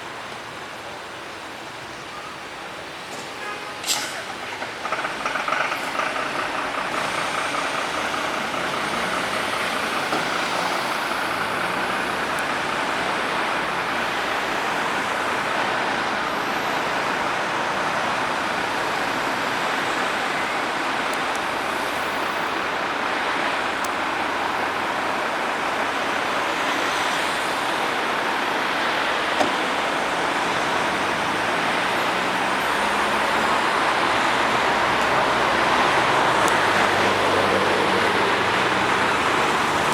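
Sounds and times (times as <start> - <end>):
vehicles driving past: 2.6 - 39.9.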